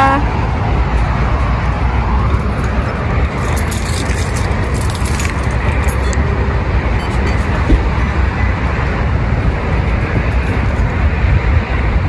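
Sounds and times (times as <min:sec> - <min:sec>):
car traffic rumble: 0:00.0 - 0:12.0
wind buffeting microphone: 0:00.2 - 0:12.0.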